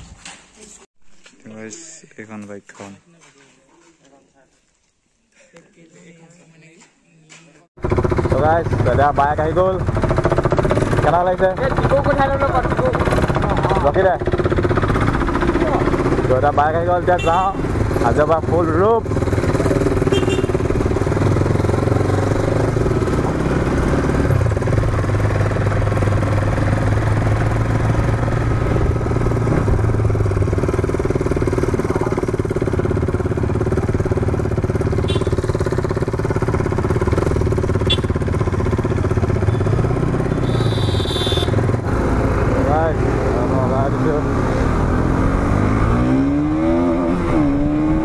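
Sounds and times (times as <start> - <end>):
motorcycle engine cruising: 7.8 - 48.0.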